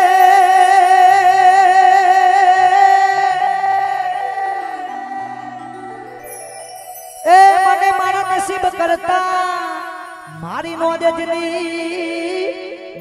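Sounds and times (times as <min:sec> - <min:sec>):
man singing long note with vibrato: 0:00.0 - 0:13.0.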